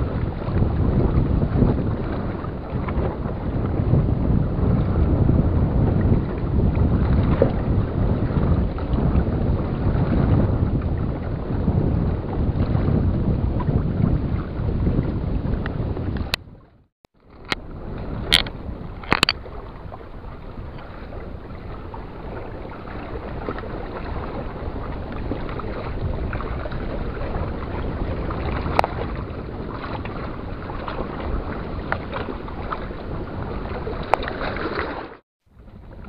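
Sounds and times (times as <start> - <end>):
sea water lapping: 0.0 - 36.0
wind on microphone: 0.0 - 36.0.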